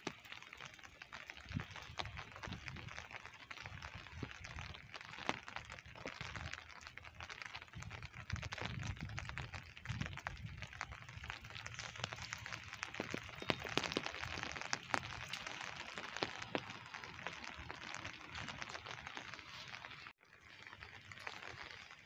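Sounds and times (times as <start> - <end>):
rain pattering: 0.0 - 22.0.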